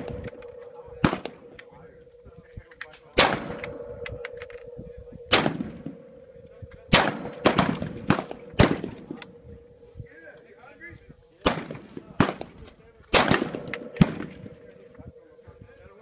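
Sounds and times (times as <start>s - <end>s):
rifle shots with echo: 0.0s - 9.8s, 11.4s - 15.0s.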